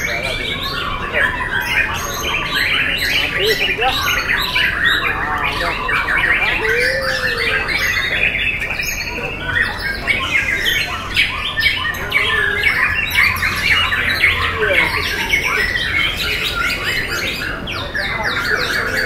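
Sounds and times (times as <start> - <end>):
bird singing chirps and whistles: 0.0 - 19.0
other birds singing: 0.0 - 19.0.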